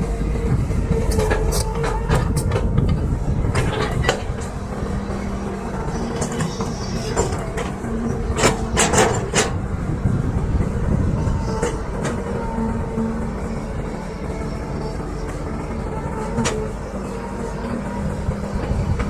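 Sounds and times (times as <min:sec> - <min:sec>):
excavator diesel engine whining: 0:00.0 - 0:19.0.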